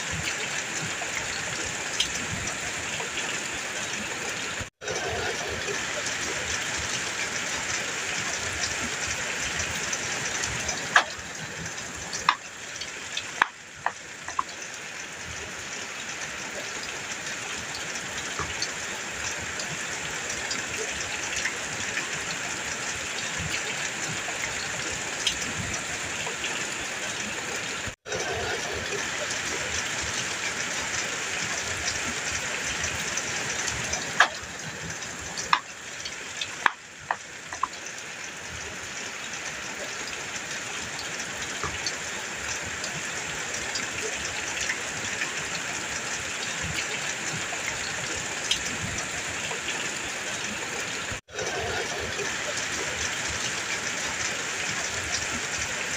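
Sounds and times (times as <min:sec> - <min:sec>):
heavy rain on a metal roof: 0:00.0 - 0:55.9.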